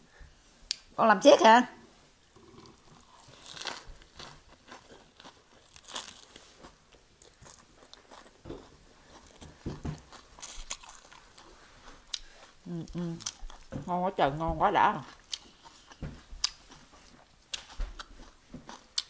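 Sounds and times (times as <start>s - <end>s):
crunching and chewing: 2.3s - 13.8s, 15.0s - 19.0s.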